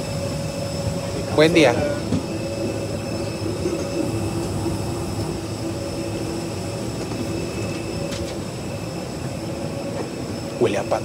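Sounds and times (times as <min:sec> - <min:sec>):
airliner cabin air system hum: 0:00.0 - 0:11.0.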